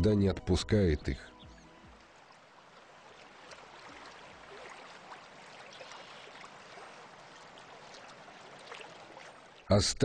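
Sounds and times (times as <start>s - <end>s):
faint running water: 1.4s - 10.0s.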